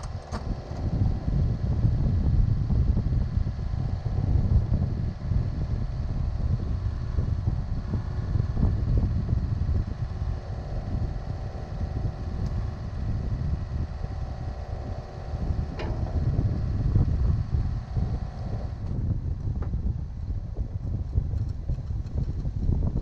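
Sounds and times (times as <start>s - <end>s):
diesel engine running: 0.0s - 23.0s
wind buffeting microphone: 0.0s - 23.0s.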